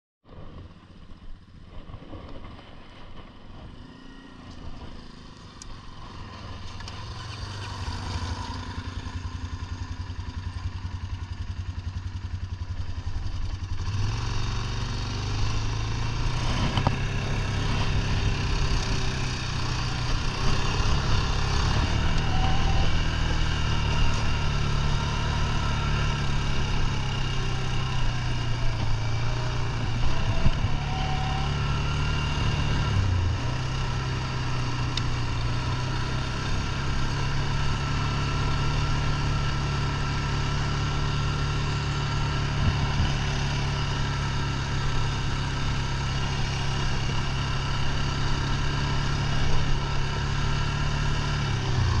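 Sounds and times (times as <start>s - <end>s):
atv engine running: 0.3s - 52.0s.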